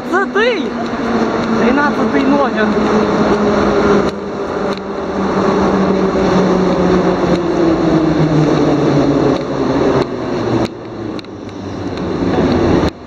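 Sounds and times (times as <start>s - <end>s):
rumble of train cars: 0.0s - 13.0s.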